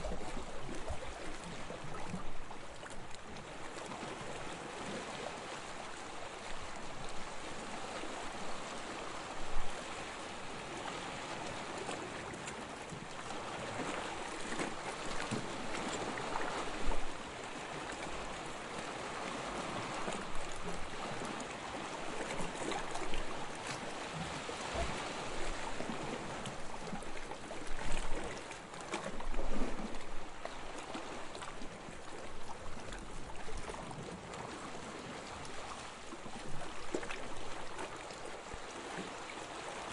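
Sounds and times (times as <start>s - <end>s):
wave splash: 0.0s - 39.9s
waves lapping on sandy shore: 0.0s - 39.9s.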